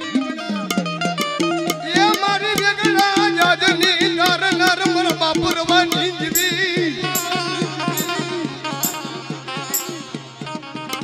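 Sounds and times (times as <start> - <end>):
drum beating steady rhythm: 0.0 - 11.0.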